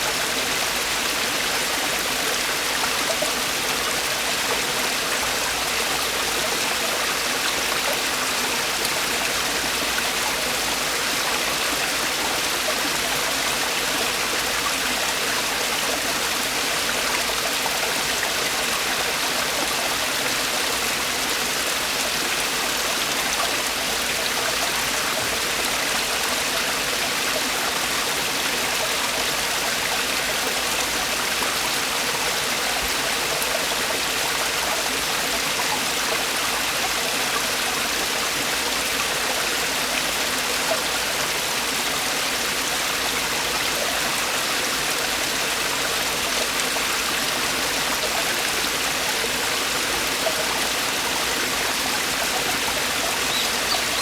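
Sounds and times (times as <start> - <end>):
stream water splashing over rocks: 0.0 - 54.0.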